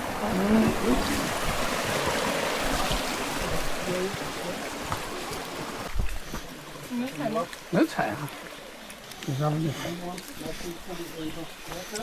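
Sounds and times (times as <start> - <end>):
falling water rushing: 0.0 - 12.0.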